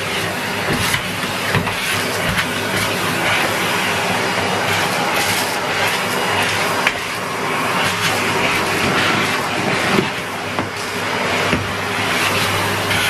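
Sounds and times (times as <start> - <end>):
vacuum cleaner running over carpet: 0.0 - 13.0.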